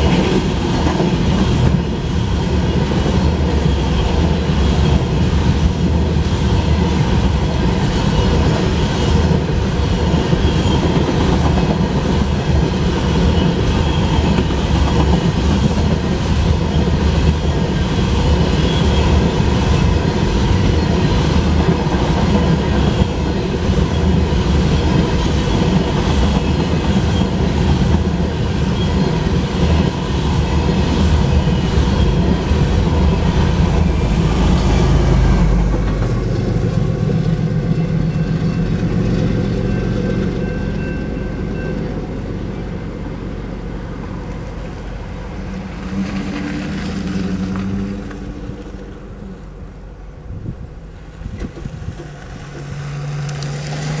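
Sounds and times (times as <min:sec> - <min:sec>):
freight train cars rolling on rails: 0:00.0 - 0:54.0.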